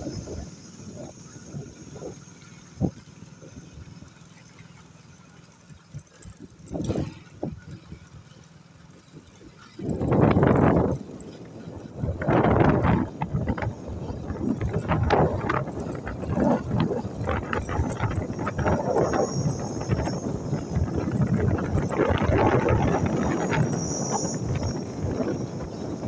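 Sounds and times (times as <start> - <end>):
wind buffeting microphone: 0.0 - 4.2, 6.0 - 8.2, 9.1 - 26.0.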